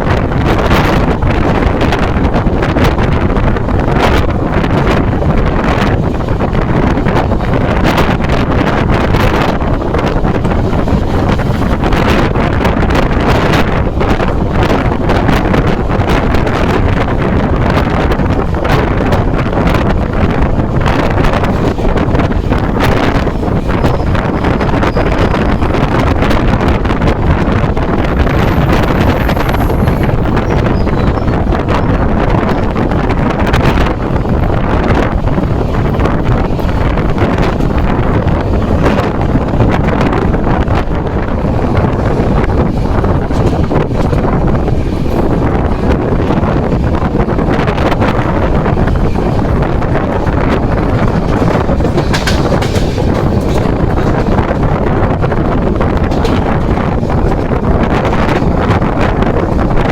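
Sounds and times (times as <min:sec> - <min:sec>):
train clicks and rattles: 0:00.0 - 0:59.9
train low rumble: 0:00.0 - 0:59.9
wind rushing over microphone: 0:00.0 - 0:59.9.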